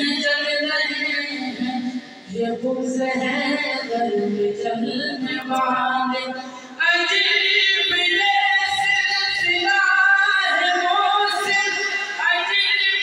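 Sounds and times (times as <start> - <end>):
young man singing over loudspeakers: 0.0 - 13.0.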